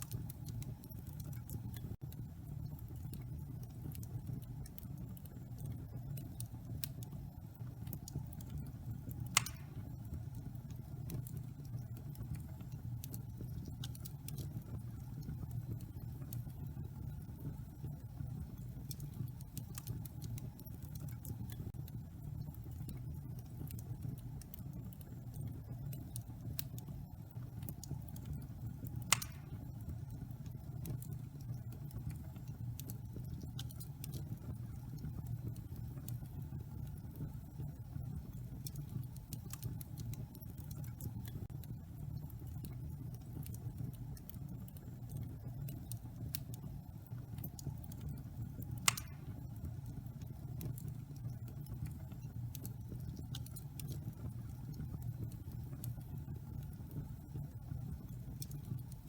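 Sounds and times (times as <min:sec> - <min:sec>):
fire crackling and rumbling: 0:00.0 - 0:59.0.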